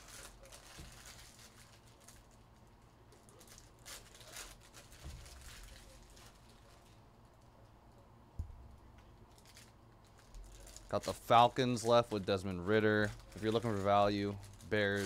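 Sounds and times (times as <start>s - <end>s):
wrapper crinkling: 0.0s - 7.4s, 8.9s - 15.0s.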